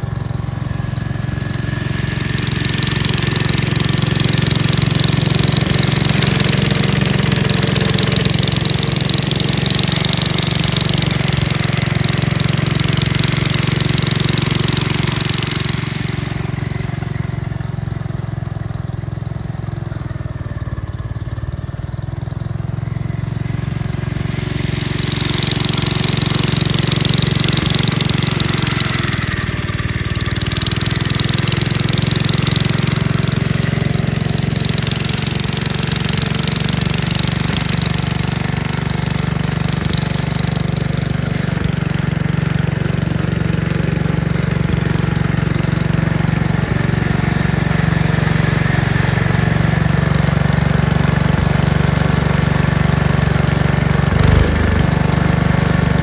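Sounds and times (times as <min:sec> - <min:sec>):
snowblower rushing: 0:00.0 - 0:56.0
tractor engine running: 0:00.0 - 0:56.0.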